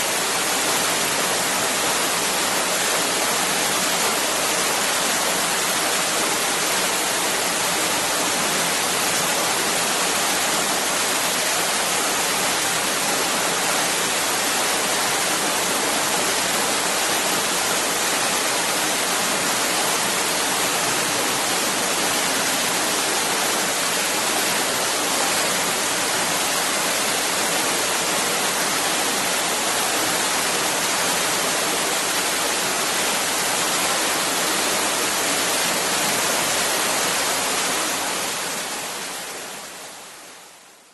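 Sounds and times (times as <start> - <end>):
rushing water roar: 0.0 - 40.8.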